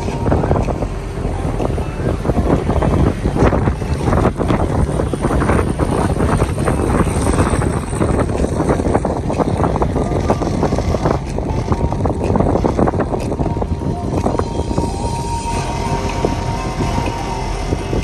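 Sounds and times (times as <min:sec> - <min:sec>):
boat engine running: 0:00.0 - 0:18.0
water rushing: 0:00.0 - 0:18.0
wind on microphone: 0:00.0 - 0:18.0.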